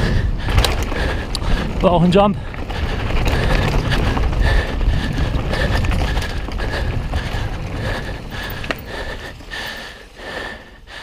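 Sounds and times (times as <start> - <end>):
bike rattling and knocking: 0.0 - 11.0
bike tyres rumbling: 0.0 - 11.0
wind rushing over microphone: 0.0 - 11.0.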